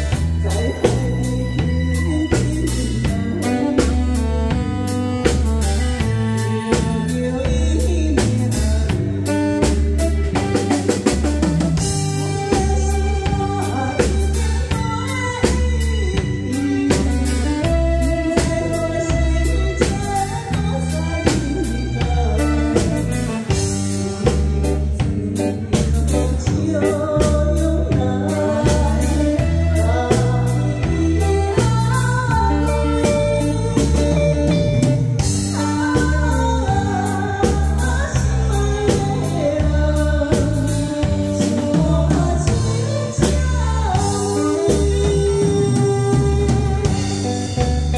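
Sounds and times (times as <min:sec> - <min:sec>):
bass: 0:00.0 - 0:47.9
drum-kit beat: 0:00.0 - 0:47.9
keyboard: 0:00.0 - 0:47.9
woman singing a ballad: 0:00.0 - 0:47.9.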